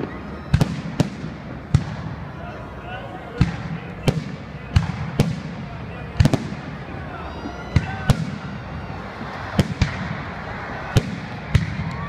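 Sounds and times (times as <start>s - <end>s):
firework crackle and rumble: 0.0s - 12.0s.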